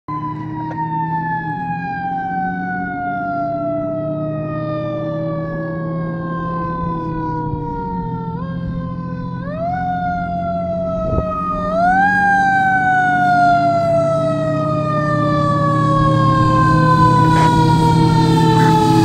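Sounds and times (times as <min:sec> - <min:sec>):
fire engine siren wailing: 0:00.1 - 0:19.0.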